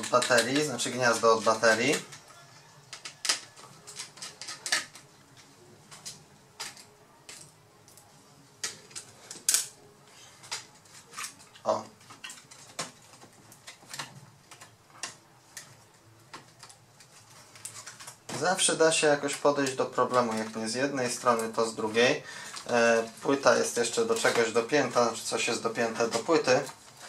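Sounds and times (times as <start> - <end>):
hand tools clicking on laptop parts: 0.0 - 8.0, 10.4 - 25.2.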